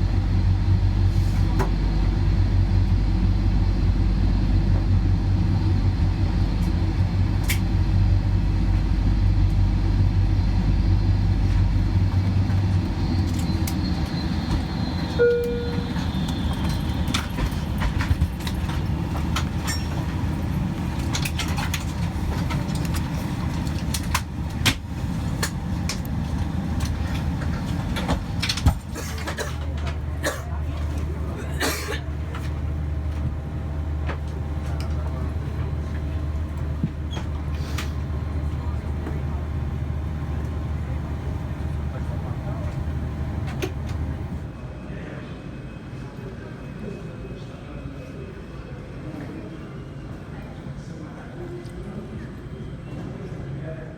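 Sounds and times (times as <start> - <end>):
aircraft cabin engine rumble: 0.0 - 44.6.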